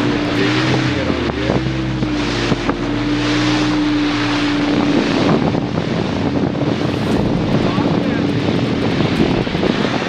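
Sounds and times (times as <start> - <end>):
boat engine droning: 0.0 - 10.0
wind noise on microphone: 0.0 - 10.0.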